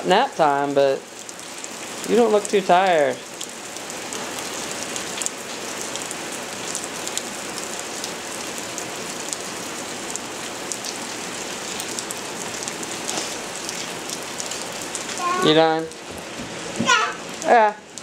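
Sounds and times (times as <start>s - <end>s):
rain falling on wooden deck: 0.0s - 18.0s.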